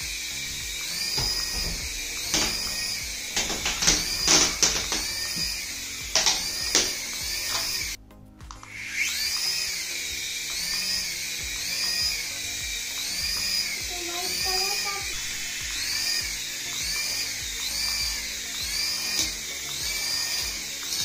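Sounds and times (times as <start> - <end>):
toy helicopter motors whining: 0.0 - 8.0, 8.6 - 21.0
music: 0.0 - 21.0.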